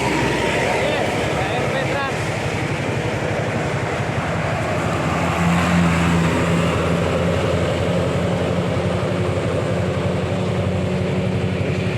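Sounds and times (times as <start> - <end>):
bus diesel engine droning: 0.0 - 11.9.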